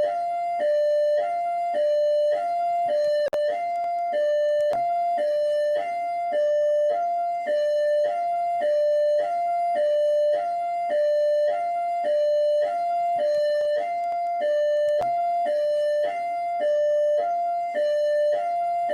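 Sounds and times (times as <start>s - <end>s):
electronic hi-lo siren: 0.0s - 18.9s.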